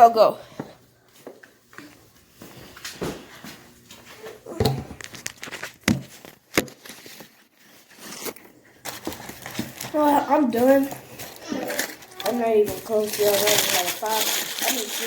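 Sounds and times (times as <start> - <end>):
handling and movement noises: 1.1 - 15.0.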